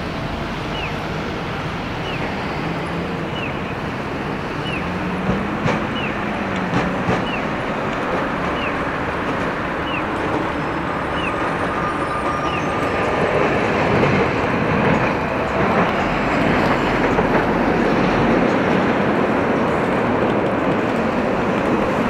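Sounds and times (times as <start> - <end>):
city traffic noise: 0.0 - 22.0
streetcar running on track: 0.0 - 22.0.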